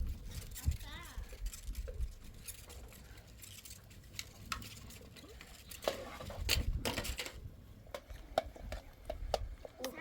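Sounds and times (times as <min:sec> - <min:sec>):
objects knocking and scraping: 0:00.0 - 0:10.0.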